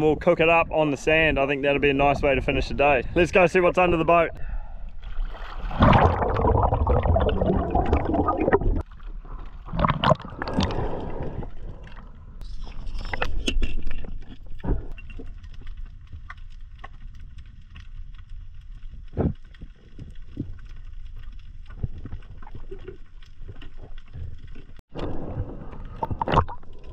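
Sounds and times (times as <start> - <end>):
water splashing and sloshing: 4.8 - 26.9
bubbling: 5.2 - 26.9.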